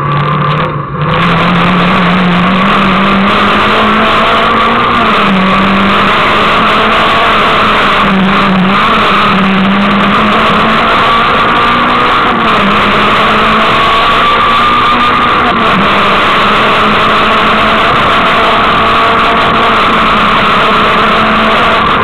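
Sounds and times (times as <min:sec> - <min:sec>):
car engine pulling: 0:00.0 - 0:22.0
road and wind noise: 0:00.0 - 0:22.0.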